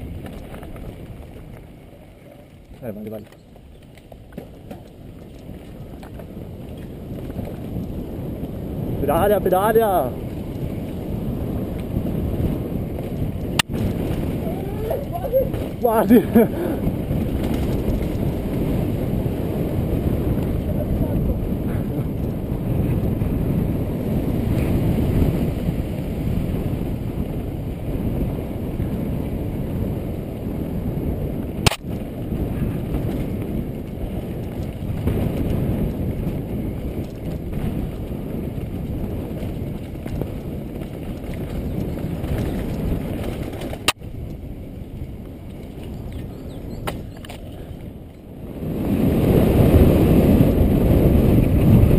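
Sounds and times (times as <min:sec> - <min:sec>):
bike tyres rumbling and rattling: 0:00.0 - 0:51.9
wind on microphone: 0:00.0 - 0:51.9.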